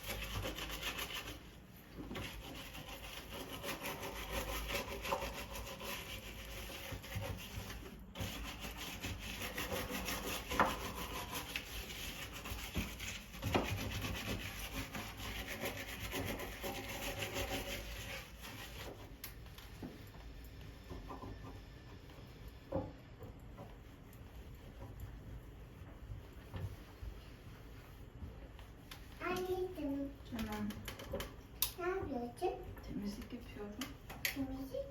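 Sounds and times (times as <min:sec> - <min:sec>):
scrubbing a surface by hand: 0:00.0 - 0:30.9.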